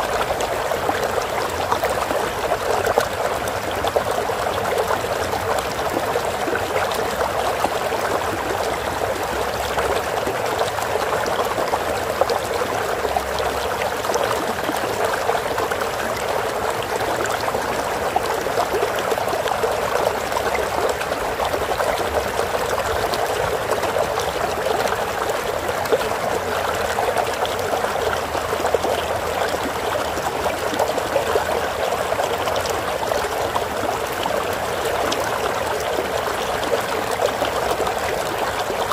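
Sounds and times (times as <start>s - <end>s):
stream running and trickling: 0.0s - 38.9s.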